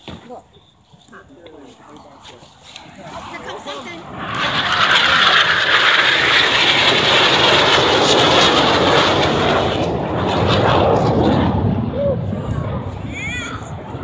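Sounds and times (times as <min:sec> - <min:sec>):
jet aircraft roar: 0:01.6 - 0:14.0.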